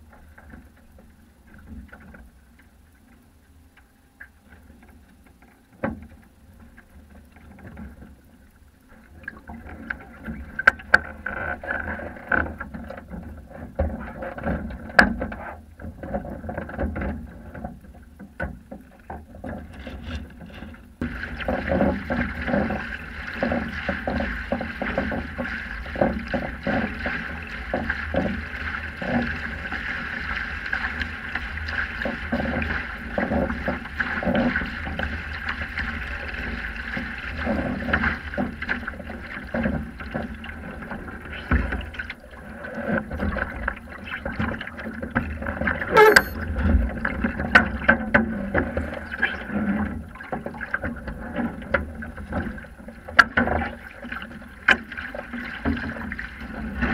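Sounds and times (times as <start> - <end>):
water slapping against hull: 9.4 - 46.1, 46.8 - 56.9.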